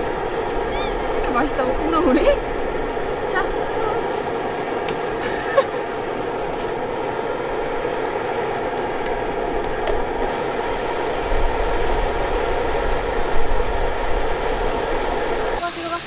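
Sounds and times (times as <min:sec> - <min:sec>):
gas burner rushing: 0:00.0 - 0:16.0.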